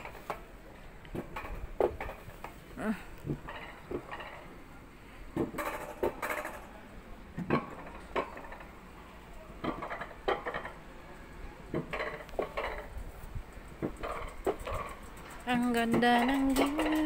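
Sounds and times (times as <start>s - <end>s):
coaster cart clanking on rail: 0.0s - 17.0s.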